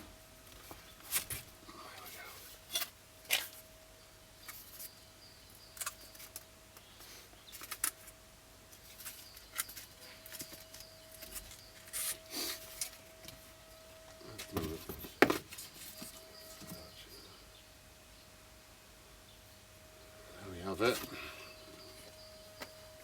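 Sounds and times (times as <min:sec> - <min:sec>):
faint steady tone: 0:00.0 - 0:23.0.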